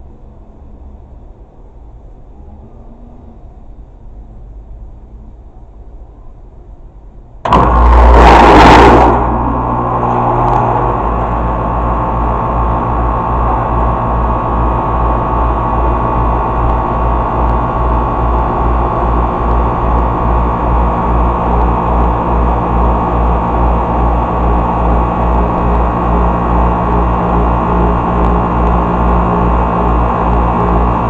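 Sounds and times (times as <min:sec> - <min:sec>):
air conditioning unit running: 0:00.0 - 0:31.0
low pulsing: 0:00.0 - 0:31.0.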